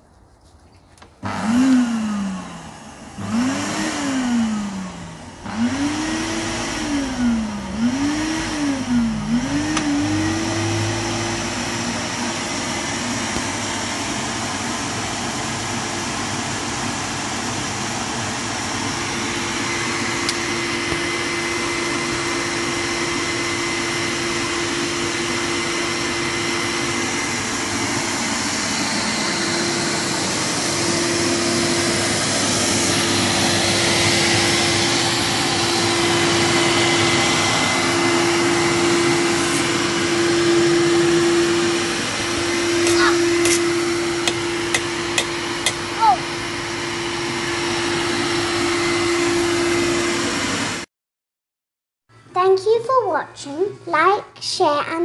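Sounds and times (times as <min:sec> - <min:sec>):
vacuum cleaner motor whining: 0:01.2 - 0:50.9.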